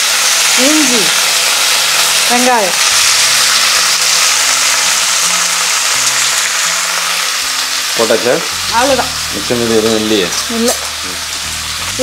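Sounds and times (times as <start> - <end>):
onion sizzling in hot oil: 0.0 - 12.0
background music: 2.1 - 12.0.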